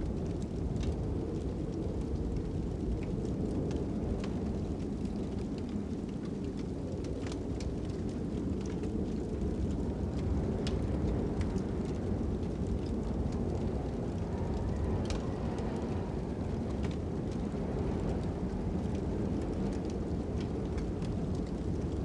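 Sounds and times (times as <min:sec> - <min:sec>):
fire crackling and popping: 0:00.0 - 0:22.0
wind rumble: 0:00.0 - 0:22.0.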